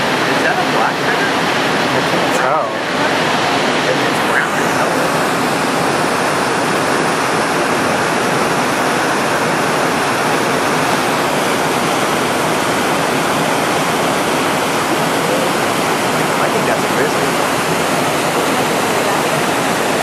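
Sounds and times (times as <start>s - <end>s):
whitewater rushing over rocks: 0.0s - 20.0s.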